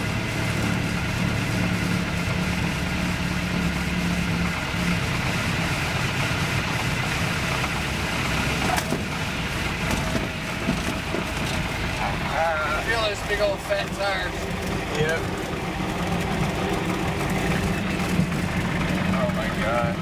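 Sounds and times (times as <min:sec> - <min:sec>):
propeller and wind noise: 0:00.0 - 0:20.0
small plane engine idling: 0:00.0 - 0:20.0.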